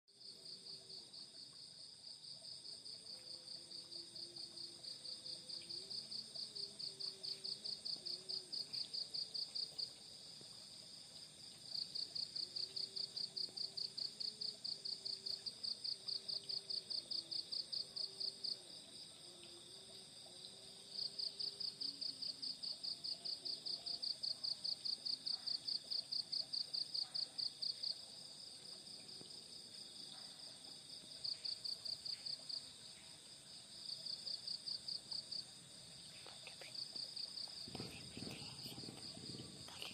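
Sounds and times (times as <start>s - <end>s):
cricket pulsed trill: 0.2s - 39.9s.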